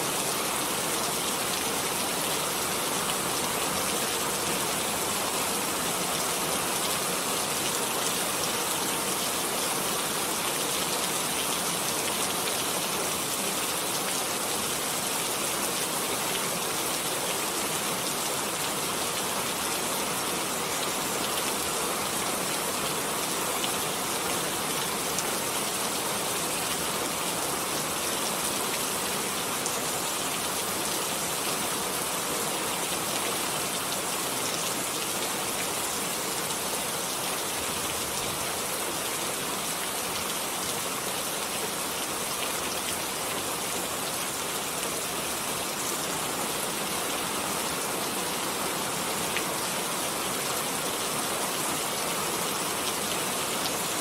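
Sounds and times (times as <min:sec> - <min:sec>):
rain hissing on surfaces: 0:00.0 - 0:54.0.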